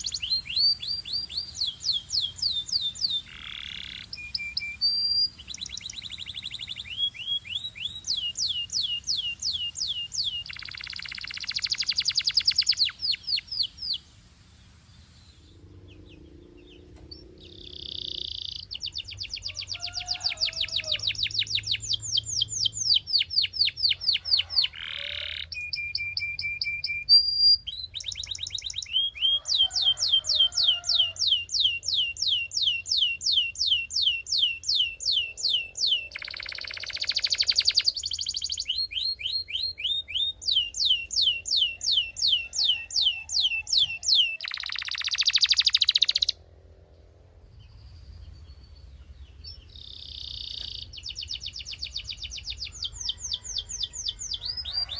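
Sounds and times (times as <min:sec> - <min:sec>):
canary singing trills: 0:00.0 - 0:14.1, 0:14.7 - 0:46.5, 0:47.6 - 0:54.9.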